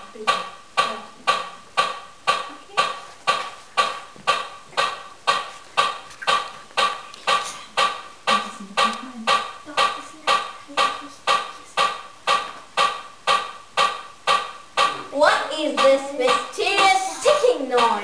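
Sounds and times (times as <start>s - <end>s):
sharp ringing ticking taps: 0.2s - 18.0s.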